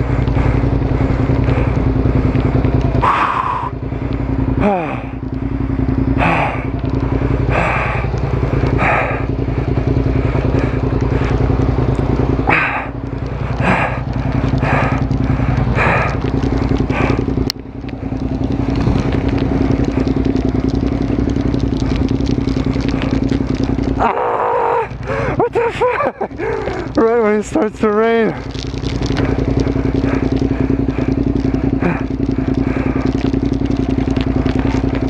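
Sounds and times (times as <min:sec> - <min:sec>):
engine stalling: 0:00.0 - 0:35.0
motorcycle engine idling: 0:00.0 - 0:35.0.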